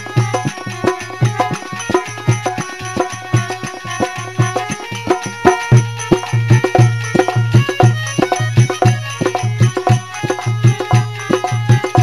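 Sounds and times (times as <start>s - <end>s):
hand drums rhythm: 0.0s - 12.0s.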